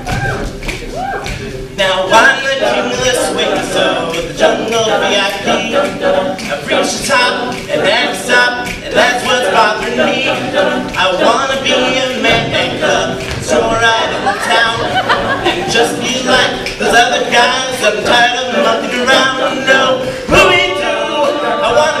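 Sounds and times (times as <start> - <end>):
male a cappella group singing: 1.7 - 22.0.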